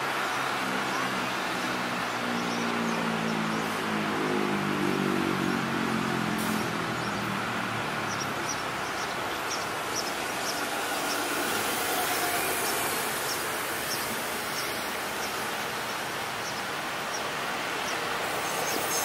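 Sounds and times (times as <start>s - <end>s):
hiss of cars and tyres: 0.0s - 19.0s
tram approaching on track: 0.0s - 19.0s
heavy truck engine passing: 0.1s - 15.8s.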